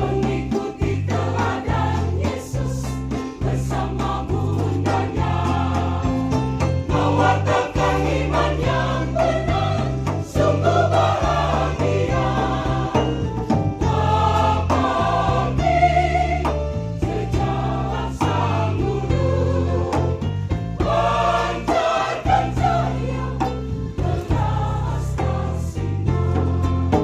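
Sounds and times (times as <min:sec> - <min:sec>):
choir singing a hymn: 0:00.0 - 0:27.0
low bass notes: 0:00.0 - 0:27.0.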